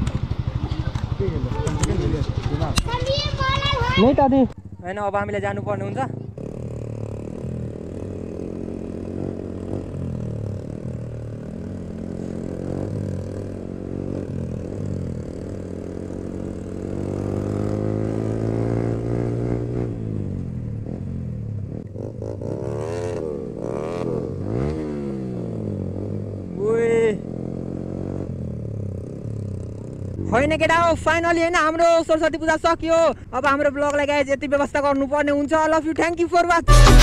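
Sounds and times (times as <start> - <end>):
motorcycle engine revving: 0.0 - 31.8.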